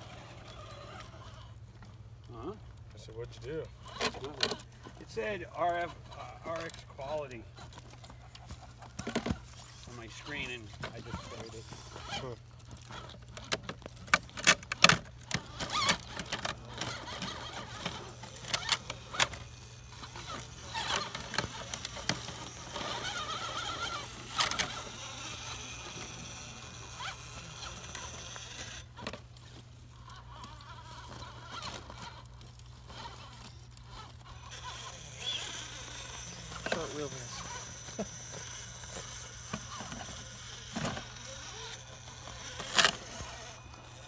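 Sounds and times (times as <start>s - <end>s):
electric motor whine: 0.0s - 44.0s.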